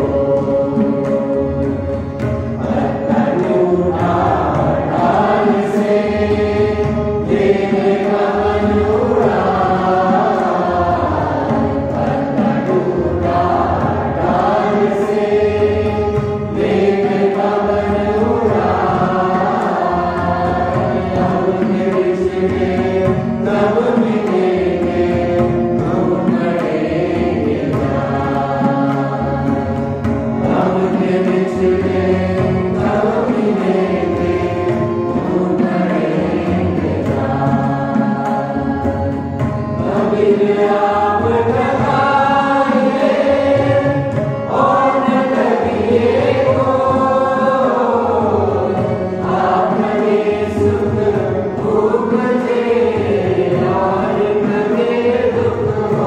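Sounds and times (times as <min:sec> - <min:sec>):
group singing a slow chant: 0:00.0 - 0:56.0.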